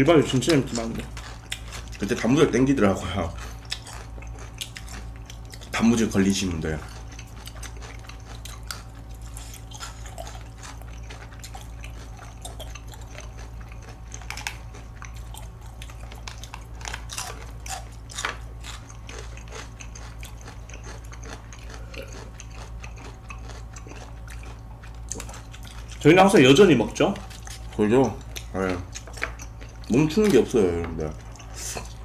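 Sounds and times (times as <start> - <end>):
chewing and biting mouth sounds: 0.0 - 32.0
steady low hum: 0.0 - 32.0.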